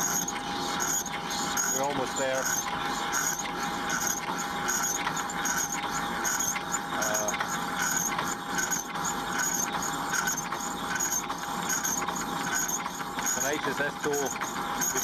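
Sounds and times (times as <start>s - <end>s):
lathe running: 0.0s - 15.0s
tool scraping steel: 0.0s - 15.0s.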